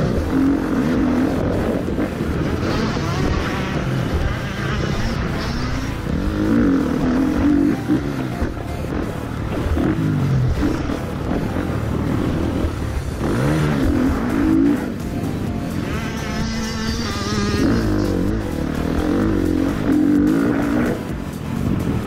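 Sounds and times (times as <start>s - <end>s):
motocross engine revving: 0.0s - 22.0s.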